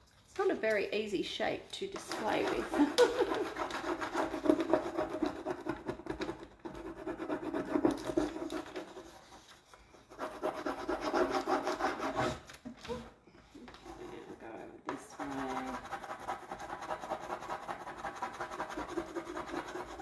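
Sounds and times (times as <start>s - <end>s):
wooden stick rubbing on paper: 2.0s - 12.4s, 13.7s - 20.0s.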